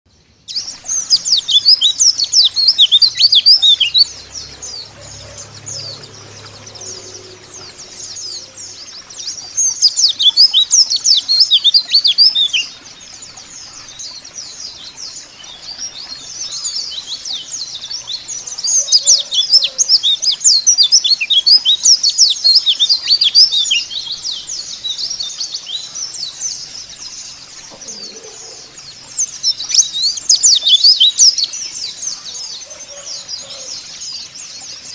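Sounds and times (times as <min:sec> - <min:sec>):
birds twittering: 0:00.1 - 0:34.9.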